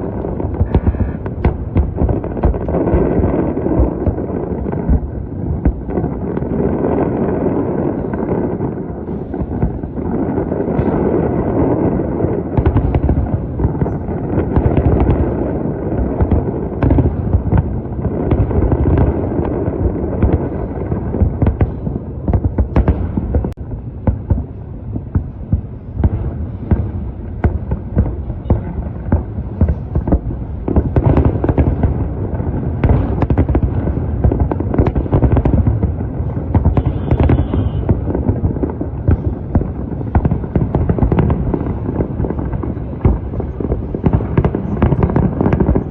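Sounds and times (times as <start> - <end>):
firework bursts and crackling bangs: 0.0 - 45.9
heavy rumbling background: 0.0 - 45.9.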